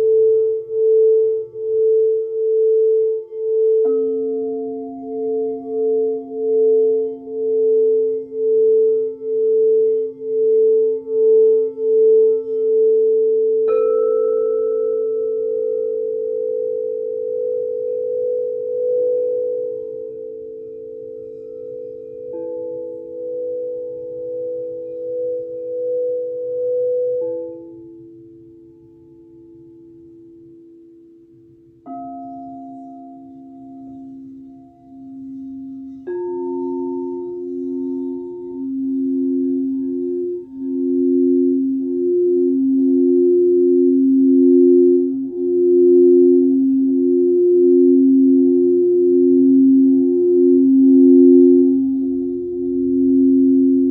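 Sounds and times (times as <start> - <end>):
singing bowl struck: 0.0 - 30.6, 31.8 - 53.9
singing bowls ringing: 0.0 - 53.9.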